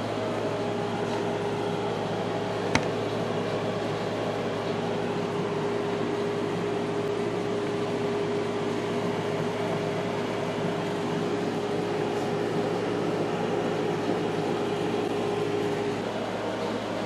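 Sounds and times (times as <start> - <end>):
cooling fans whirring: 0.0 - 17.0.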